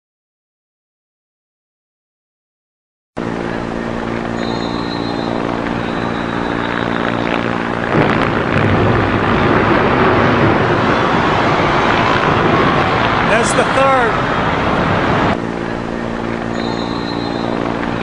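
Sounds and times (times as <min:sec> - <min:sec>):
helicopter engine and rotor: 0:03.2 - 0:18.0
loud rush of noise: 0:03.2 - 0:18.0.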